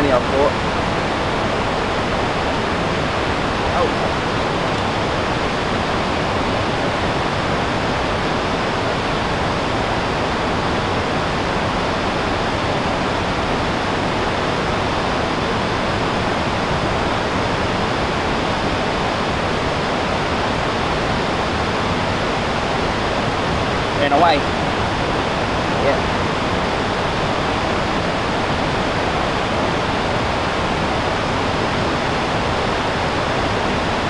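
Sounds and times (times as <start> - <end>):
river rapids rushing over rock: 0.0 - 34.0.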